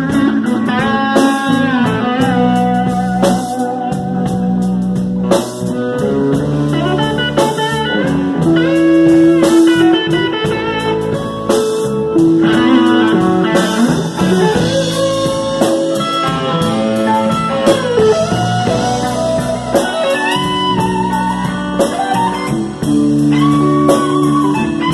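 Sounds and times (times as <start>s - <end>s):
electric guitar bending notes: 0.0s - 24.9s
live band playing: 0.0s - 24.9s.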